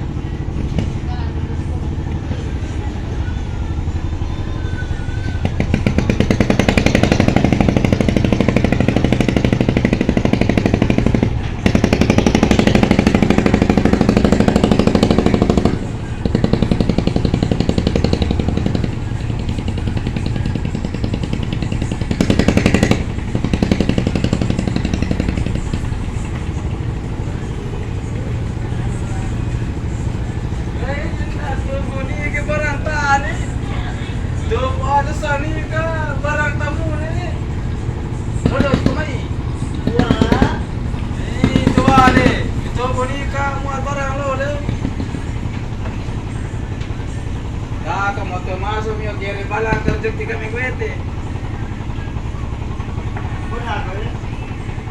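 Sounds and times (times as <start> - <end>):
ship engine humming and chugging: 0.0 - 54.9.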